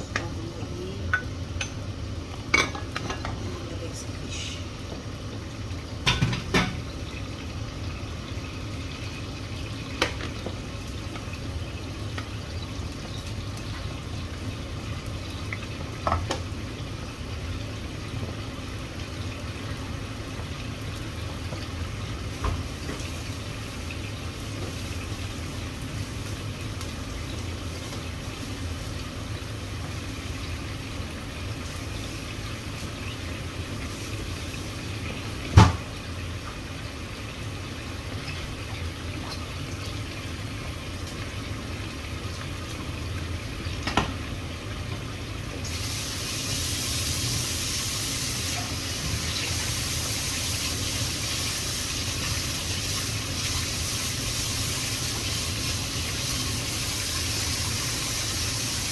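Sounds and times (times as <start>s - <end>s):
sauce simmering and bubbling: 4.6s - 58.9s.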